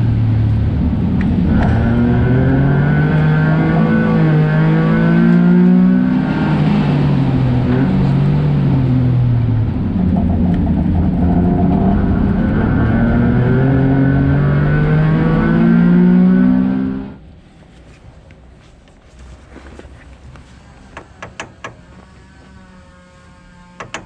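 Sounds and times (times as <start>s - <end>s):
small car engine accelerating: 0.0s - 17.2s, 21.7s - 24.0s.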